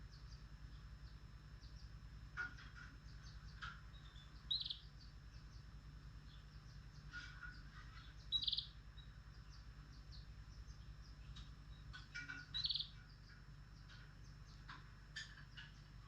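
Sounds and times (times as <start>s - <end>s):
lovebirds chirping: 0.0s - 16.0s
steady low hum: 0.0s - 16.0s.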